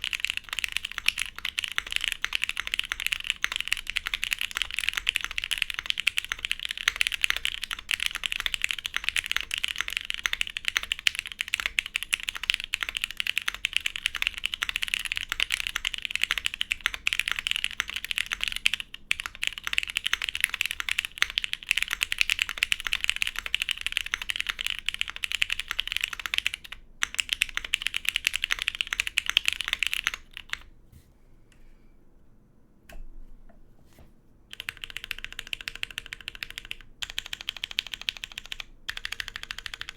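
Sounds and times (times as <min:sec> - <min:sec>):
fast mechanical keyboard typing: 0:00.0 - 0:30.7, 0:34.5 - 0:39.9.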